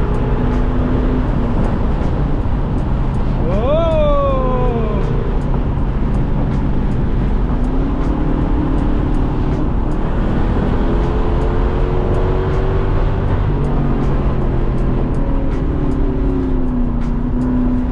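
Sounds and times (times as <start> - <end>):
car engine with loud exhaust: 0.0 - 17.9.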